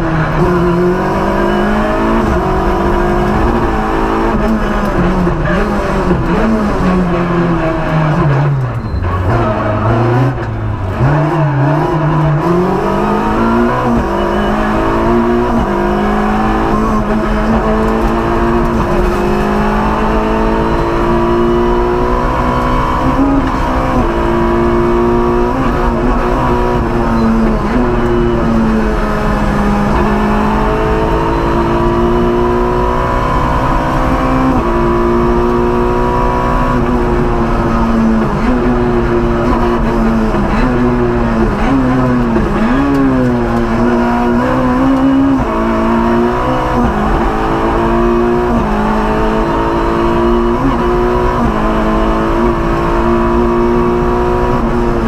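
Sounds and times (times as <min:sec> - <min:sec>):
rally car engine at full throttle: 0:00.0 - 0:55.0.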